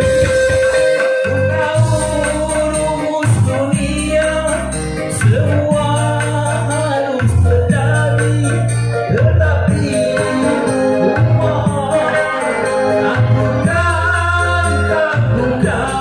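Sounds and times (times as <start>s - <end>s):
amplified band music: 0.0s - 16.0s.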